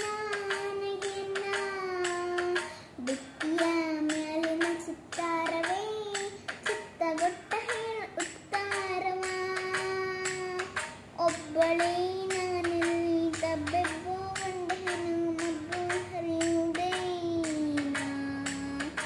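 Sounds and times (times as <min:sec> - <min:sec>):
girl singing: 0:00.0 - 0:19.0
claps keeping a beat: 0:03.4 - 0:19.0.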